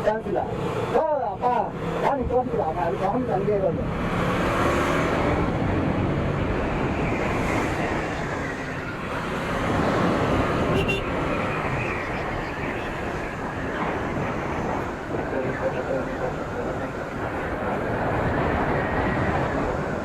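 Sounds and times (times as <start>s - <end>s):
wind rushing on microphone: 0.1s - 20.0s.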